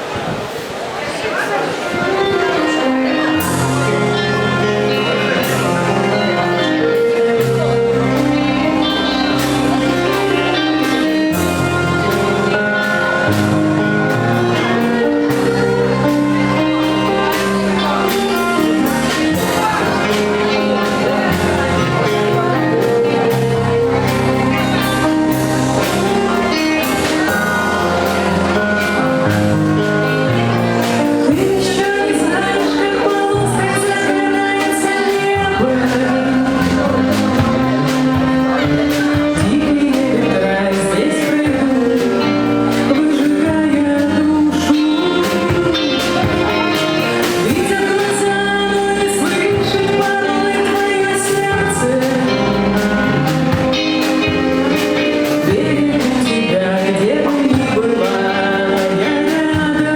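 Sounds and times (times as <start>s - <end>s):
folk-rock band playing live: 1.7s - 59.9s
person singing: 2.2s - 59.9s.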